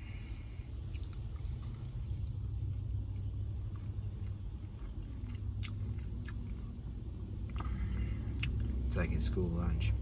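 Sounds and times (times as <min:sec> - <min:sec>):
low rumble in car cabin: 0:00.0 - 0:10.0
man chewing food: 0:00.4 - 0:08.9.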